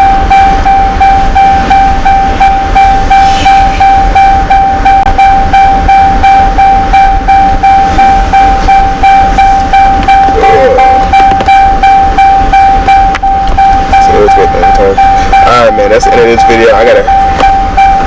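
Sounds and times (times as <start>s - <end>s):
high pulsing electronic tone: 0.0s - 18.0s.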